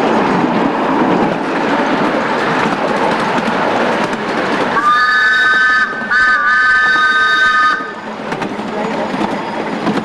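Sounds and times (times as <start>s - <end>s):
train wheels clattering over track: 0.0s - 10.0s.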